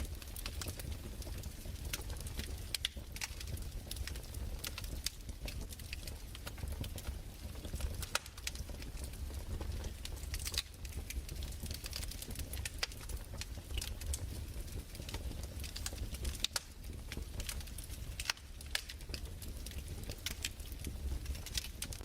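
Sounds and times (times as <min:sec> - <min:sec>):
fire low rumble: 0:00.0 - 0:22.0
fireplace popping and snapping: 0:00.0 - 0:22.0.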